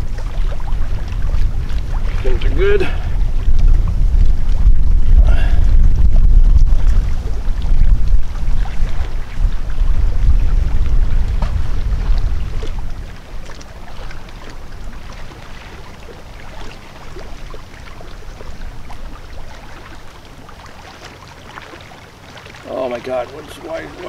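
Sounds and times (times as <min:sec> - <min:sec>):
wind buffeting microphone: 0:00.0 - 0:20.1.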